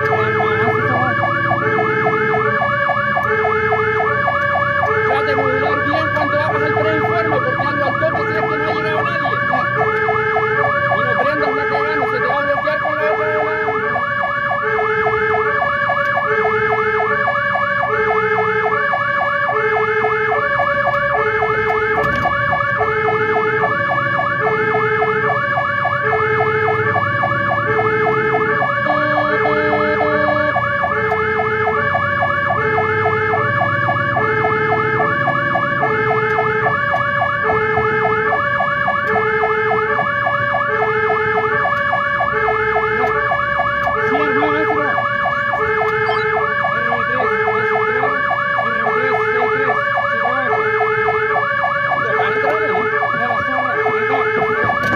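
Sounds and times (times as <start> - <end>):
fire truck engine: 0.0 - 54.9
two-tone hi-lo siren: 0.0 - 54.9
yelp siren: 0.0 - 54.9.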